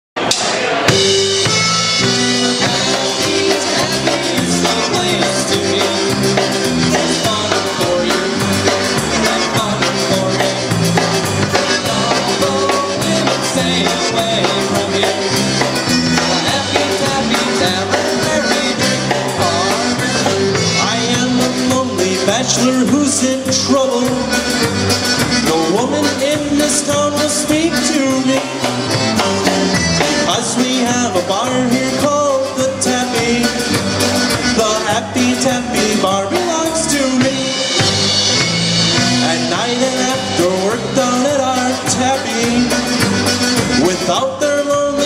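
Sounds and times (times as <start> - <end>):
drums and bass beat: 0.2 - 45.0
polka band playing: 0.2 - 45.0.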